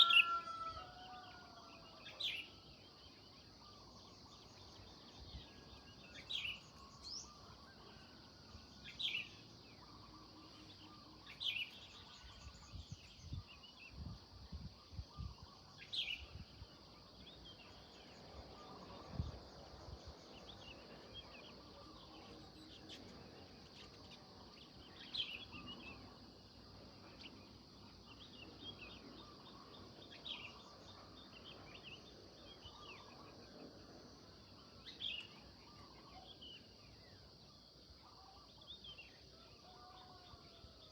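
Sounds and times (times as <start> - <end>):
faint steady high hiss: 0.2 - 40.9.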